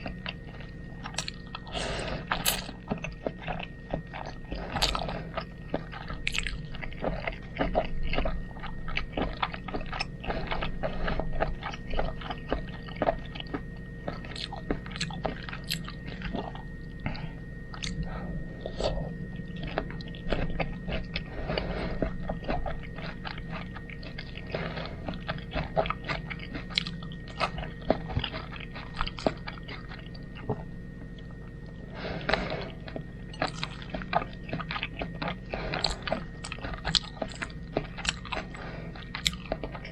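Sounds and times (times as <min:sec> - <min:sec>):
wet chewing clicks and smacks: 0:00.0 - 0:39.9.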